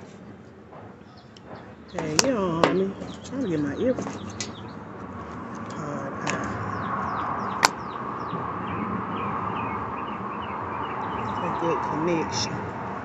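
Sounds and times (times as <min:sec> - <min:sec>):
outdoor background noise: 0:00.0 - 0:13.0
small birds chirping: 0:01.0 - 0:12.9.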